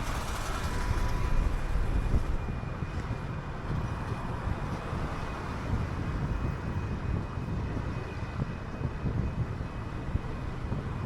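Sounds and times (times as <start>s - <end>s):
moving bus rumble: 0.0s - 11.0s
wind noise on microphone: 0.0s - 11.0s.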